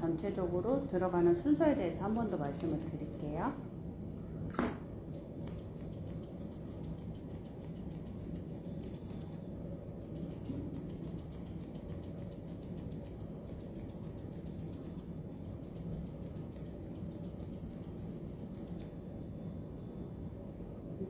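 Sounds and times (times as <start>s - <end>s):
low background hum: 0.0s - 21.0s
scissors snipping fur: 0.4s - 3.2s, 4.6s - 19.0s.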